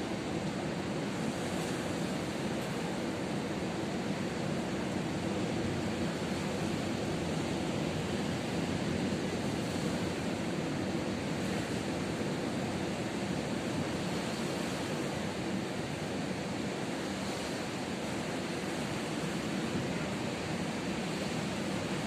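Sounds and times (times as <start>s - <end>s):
ocean surf breaking on a beach: 0.0s - 22.0s.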